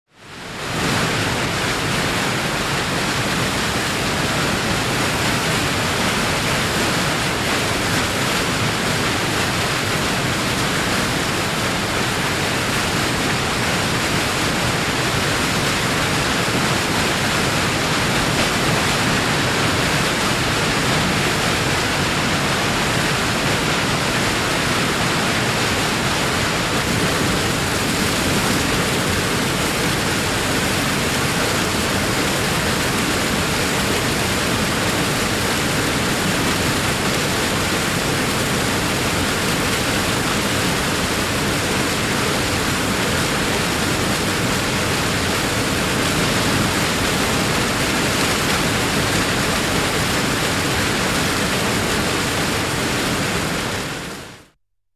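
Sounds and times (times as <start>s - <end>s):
waterfall rushing: 0.2s - 54.6s.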